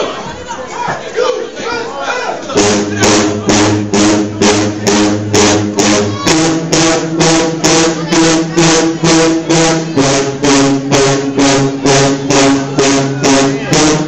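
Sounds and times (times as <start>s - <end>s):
steady drum beat: 2.5s - 14.0s
sousaphones playing low held notes: 2.6s - 14.0s.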